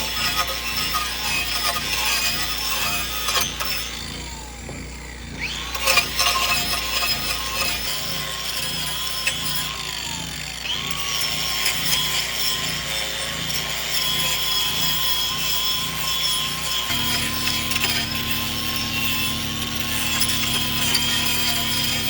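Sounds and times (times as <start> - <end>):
power tool whining on wood: 0.0 - 22.0.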